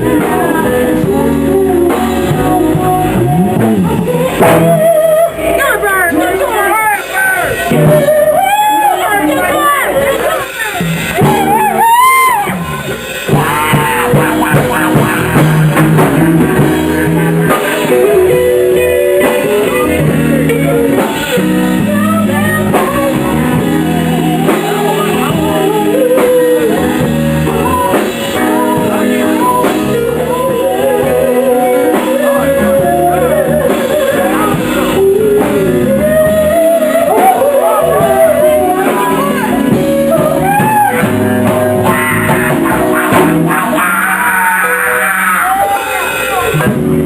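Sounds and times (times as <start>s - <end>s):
person singing: 0.0s - 46.9s
drum kit: 0.0s - 47.0s
electric guitar: 0.0s - 47.0s
live band playing slow song: 0.0s - 47.0s.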